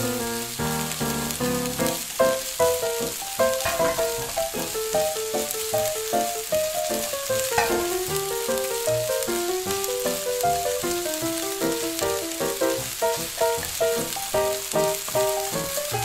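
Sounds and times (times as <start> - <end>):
background music melody: 0.0 - 16.0
rice sizzling in oil: 0.0 - 16.0.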